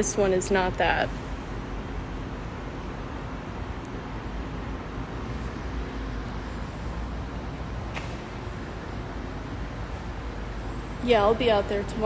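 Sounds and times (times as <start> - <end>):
distant traffic hum: 0.0 - 12.0.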